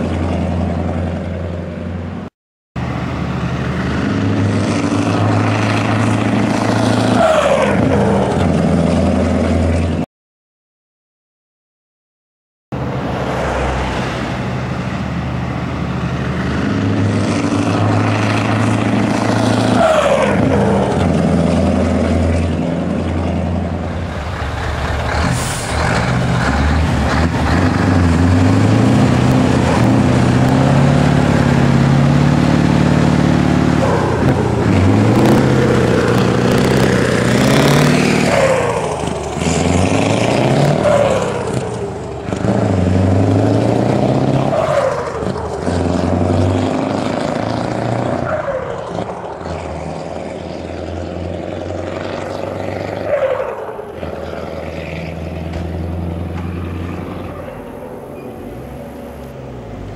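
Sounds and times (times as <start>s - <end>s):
truck diesel engine revving: 2.8s - 10.0s, 12.8s - 59.9s.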